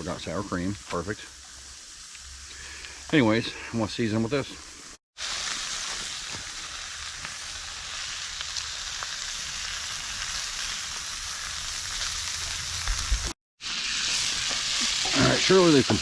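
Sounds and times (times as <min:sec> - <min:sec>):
steaks sizzling in a pan: 0:00.0 - 0:03.3, 0:04.6 - 0:16.0.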